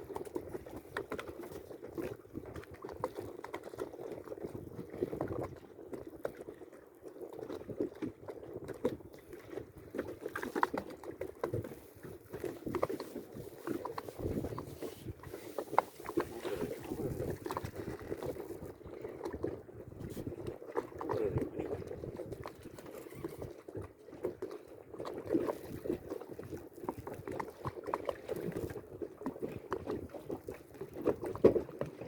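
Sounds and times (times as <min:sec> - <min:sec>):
water sloshing around a boat: 0:00.0 - 0:32.0.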